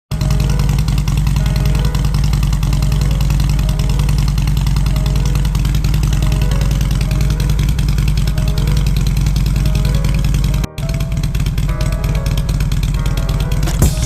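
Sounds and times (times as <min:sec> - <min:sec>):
motorcycle engine running: 0:00.1 - 0:14.0.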